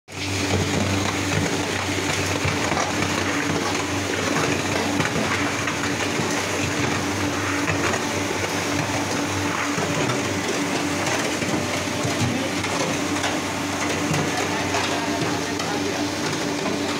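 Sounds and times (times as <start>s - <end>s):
mixer blades churning concrete: 0.1s - 16.9s.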